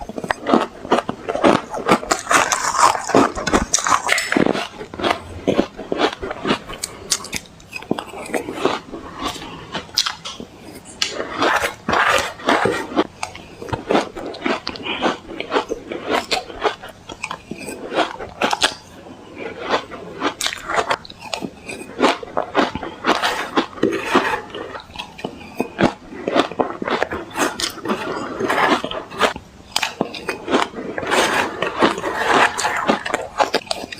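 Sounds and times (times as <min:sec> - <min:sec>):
ice cubes being chewed: 0:00.0 - 0:33.9.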